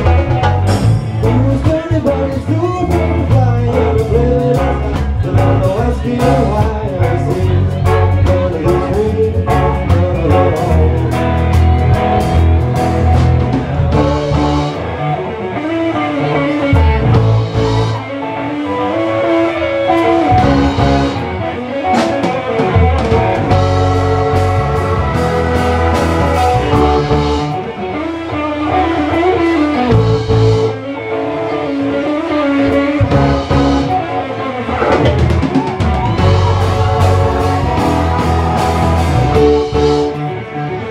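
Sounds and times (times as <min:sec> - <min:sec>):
drum kit: 0:00.0 - 0:18.1, 0:19.8 - 0:30.8, 0:32.3 - 0:40.4
bass line: 0:00.0 - 0:40.9
electric guitar: 0:00.0 - 0:40.9.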